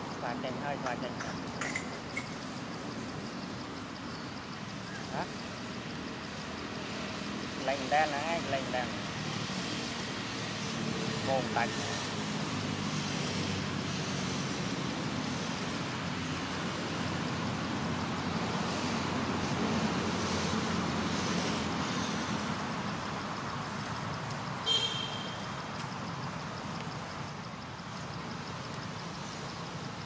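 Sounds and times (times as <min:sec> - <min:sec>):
traffic rumble: 0:00.0 - 0:30.0.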